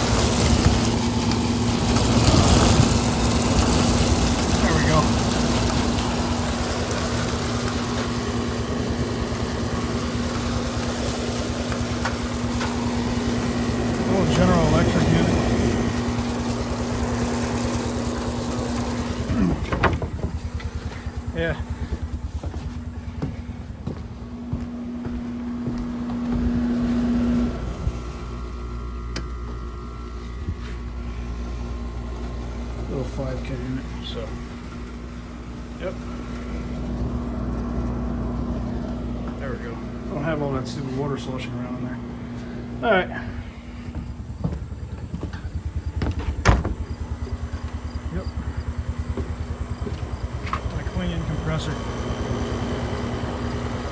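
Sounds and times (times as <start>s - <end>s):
small engine idling: 0.0s - 53.9s
window air conditioner running: 0.0s - 53.9s.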